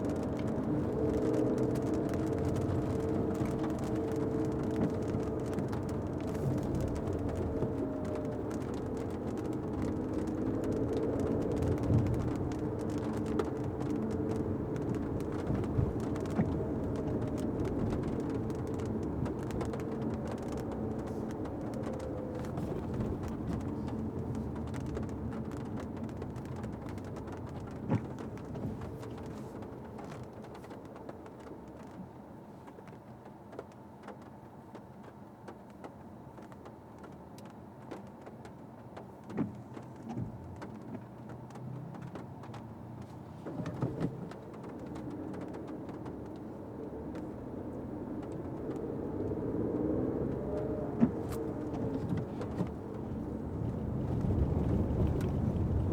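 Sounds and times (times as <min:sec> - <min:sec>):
car engine and road noise: 0:00.0 - 0:55.9
light taps and clicks: 0:00.0 - 0:55.9.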